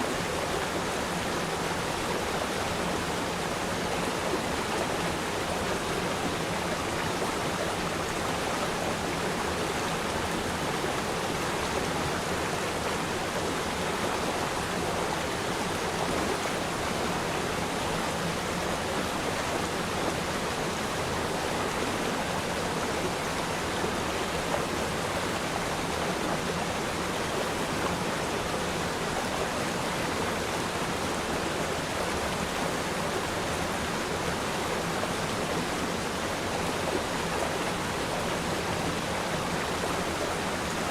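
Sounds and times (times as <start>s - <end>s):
river stream rushing: 0.0s - 40.9s.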